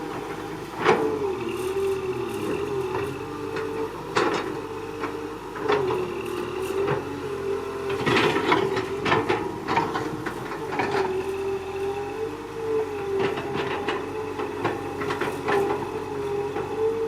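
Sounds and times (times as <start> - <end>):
excavator mechanical whine: 0.0 - 17.0.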